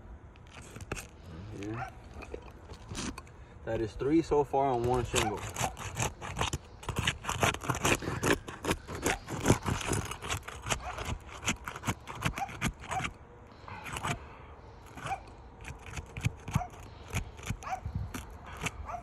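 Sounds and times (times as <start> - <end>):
shingles scraping and rasping: 0.4 - 3.5, 4.6 - 19.0.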